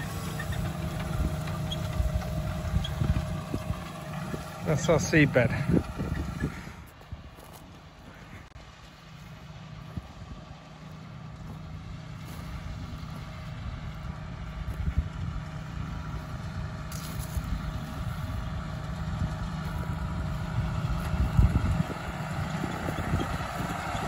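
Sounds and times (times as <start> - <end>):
tractor engine under load: 0.0 - 24.0.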